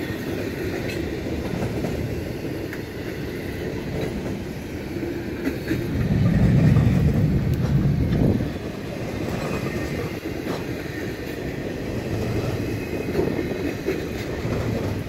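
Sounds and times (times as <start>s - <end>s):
freight cars rumbling and rattling: 0.0s - 15.0s.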